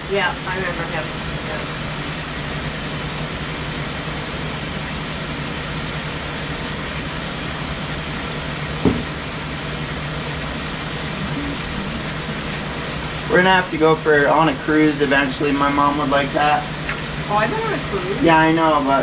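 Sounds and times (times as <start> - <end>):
electric fan running: 0.0 - 19.0.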